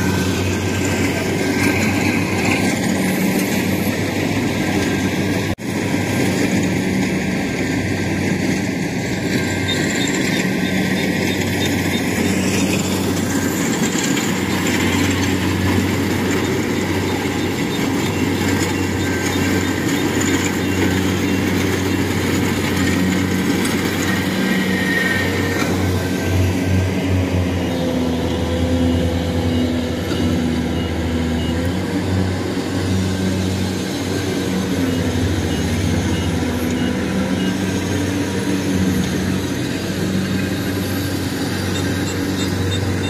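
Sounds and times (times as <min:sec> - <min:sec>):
combine harvester diesel engine: 0:00.0 - 0:43.0.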